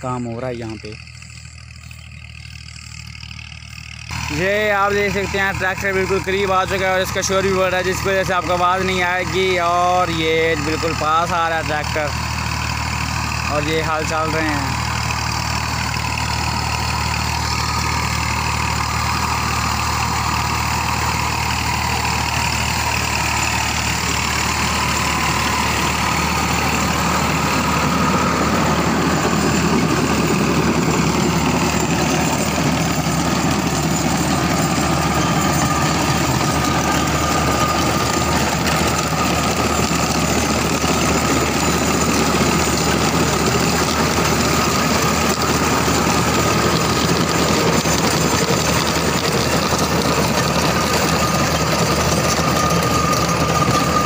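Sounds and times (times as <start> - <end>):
diesel tractor engine running: 0.0 - 54.0
rotavator churning soil: 4.1 - 54.0.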